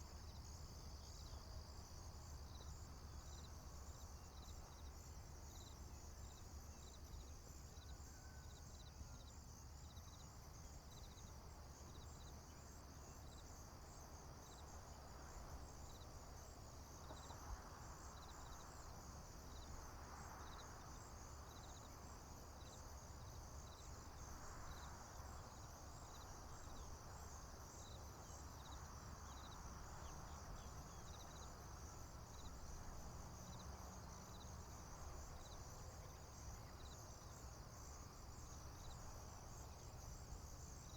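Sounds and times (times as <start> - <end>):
insect chirping at lower pitch: 0.0 - 40.9
crickets trilling: 0.2 - 40.9.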